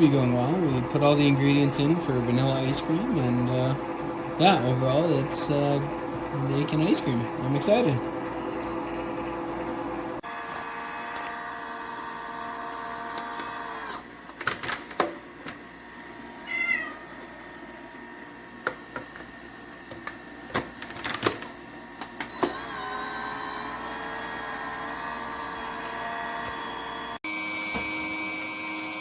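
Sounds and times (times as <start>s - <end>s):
ice cream maker motor humming: 0.0s - 14.2s, 17.0s - 29.0s.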